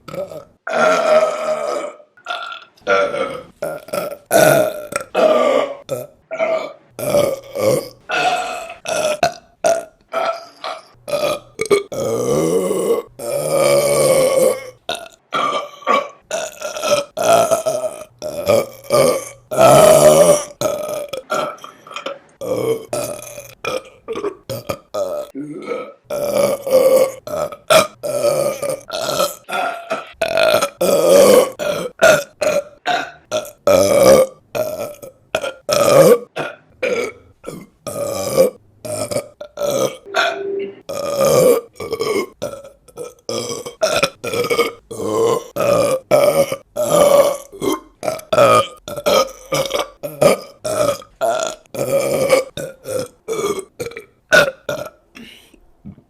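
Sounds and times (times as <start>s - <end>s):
woman burping loudly: 0.0s - 55.3s.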